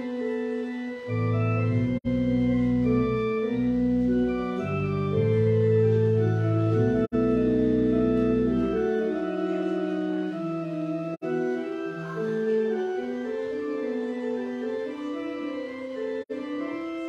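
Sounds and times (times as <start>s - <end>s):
church organ chords: 0.0s - 17.0s.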